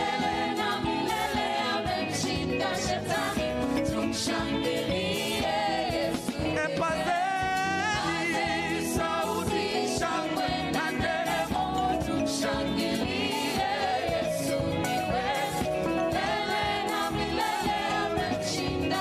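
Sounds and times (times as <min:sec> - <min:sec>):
instrumental backing: 0:00.0 - 0:19.0
voices singing gospel: 0:00.0 - 0:19.0.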